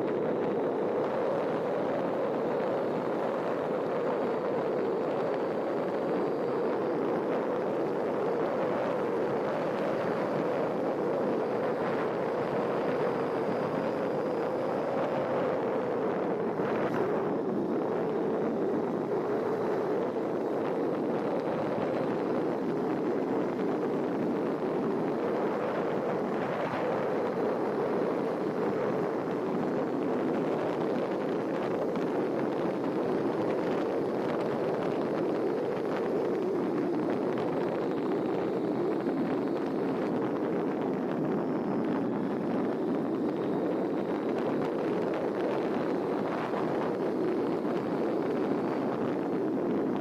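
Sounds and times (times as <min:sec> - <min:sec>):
wind and road noise: 0:00.0 - 0:50.0.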